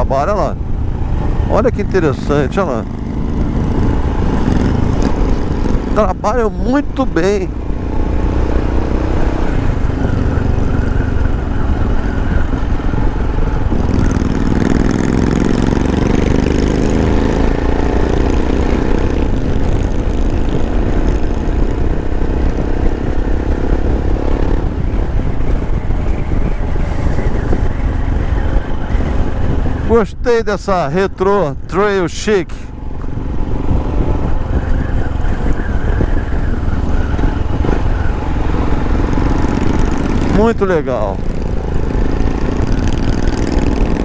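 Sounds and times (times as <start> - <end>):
motorcycle engine running: 0.0 - 29.9, 32.7 - 44.0.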